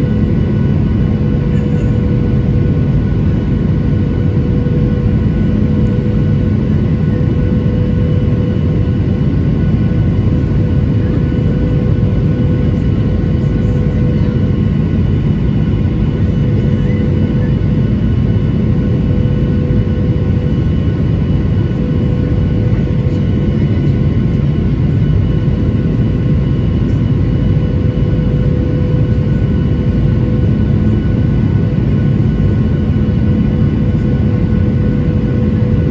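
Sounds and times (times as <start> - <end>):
airplane cabin engine and air noise: 0.0 - 35.9.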